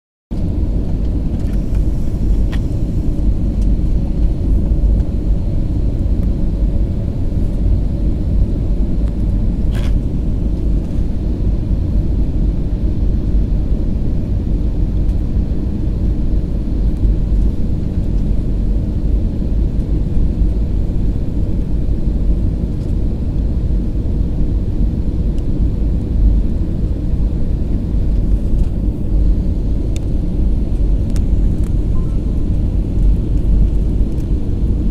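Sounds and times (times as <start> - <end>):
airliner low rumble: 0.3 - 34.9.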